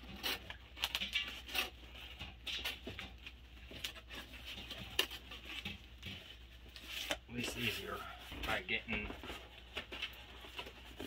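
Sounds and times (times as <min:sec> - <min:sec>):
cardboard and tape scratching: 0:00.0 - 0:11.0.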